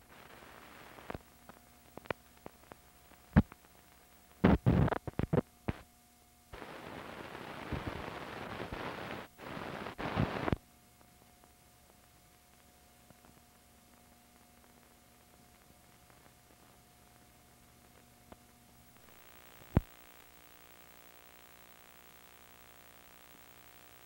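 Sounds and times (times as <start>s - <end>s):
film clicks and crackling pops: 0.0s - 5.9s, 10.0s - 24.0s
film hiss: 0.0s - 24.0s.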